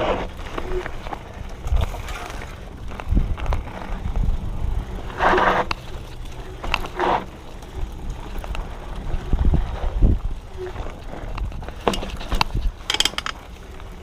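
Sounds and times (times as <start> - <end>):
bike clicks and rattles: 0.0 - 14.0
bike tyres rumbling on dirt: 0.0 - 14.0.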